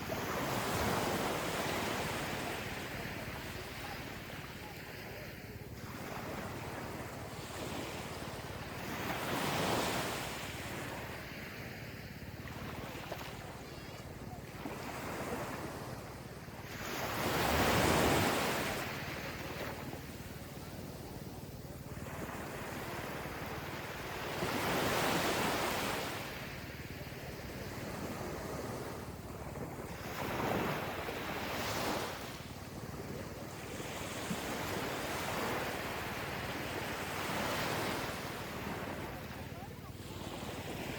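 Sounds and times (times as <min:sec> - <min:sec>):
ocean waves on beach: 0:00.0 - 0:40.9.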